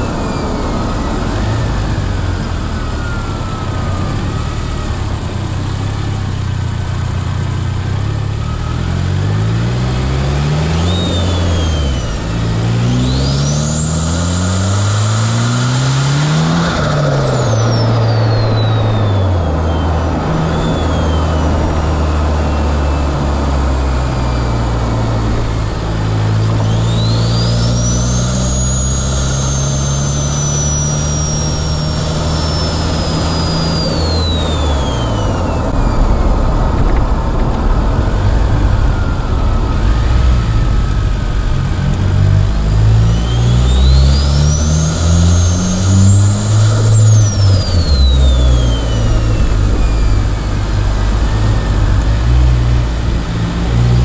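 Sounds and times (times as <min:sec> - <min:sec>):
car engine accelerating hard: 0:00.0 - 0:54.0
turbo whistle: 0:08.1 - 0:37.0, 0:37.7 - 0:54.0.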